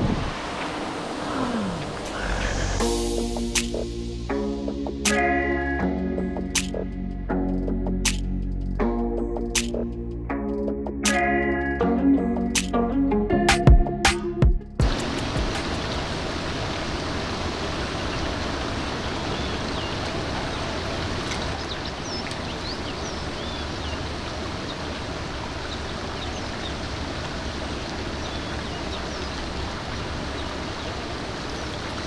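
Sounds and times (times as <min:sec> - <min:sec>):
steady rushing outdoor noise: 0:00.0 - 0:08.7, 0:14.8 - 0:32.0.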